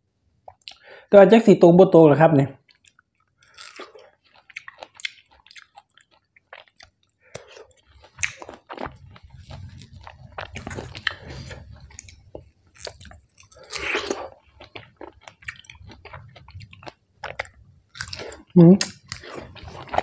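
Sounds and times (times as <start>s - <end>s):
person chewing crunchy food: 2.6s - 20.0s
wet mouth sounds: 2.7s - 20.0s.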